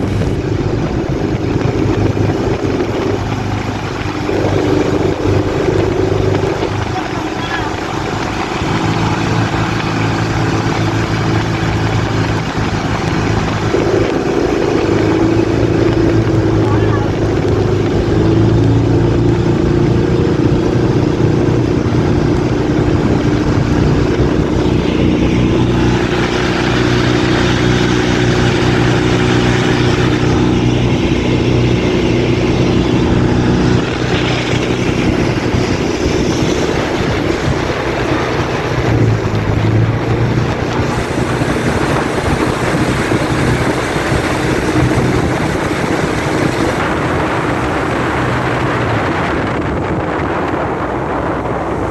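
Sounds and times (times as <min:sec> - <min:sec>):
boat engine running: 0:00.0 - 0:51.9
water noise: 0:00.0 - 0:51.9
wind noise: 0:00.0 - 0:51.9.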